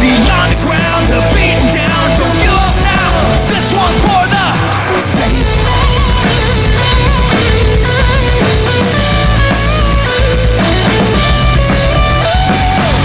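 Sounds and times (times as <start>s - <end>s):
bass guitar: 0.0s - 13.0s
drum kit: 0.0s - 13.0s
guitars sustaining notes: 0.0s - 13.0s.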